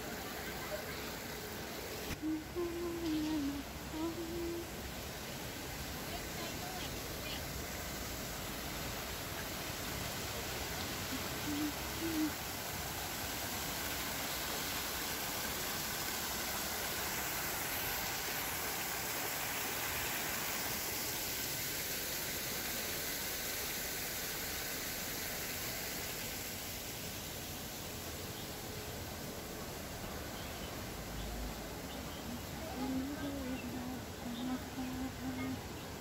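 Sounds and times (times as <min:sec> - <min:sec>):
waterfall splashing: 0:00.0 - 0:36.0.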